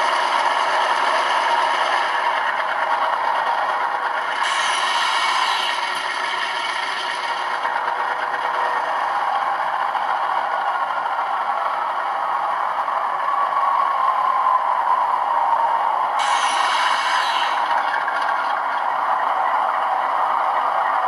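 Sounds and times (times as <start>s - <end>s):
rattly diesel engine drone from speaker: 0.0s - 21.0s.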